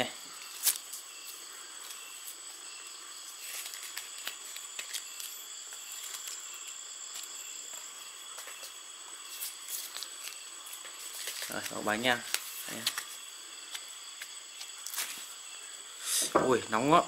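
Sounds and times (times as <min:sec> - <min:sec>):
steady high-pitched hiss: 0:00.0 - 0:17.0
leaves rustling and crackling: 0:00.3 - 0:15.6.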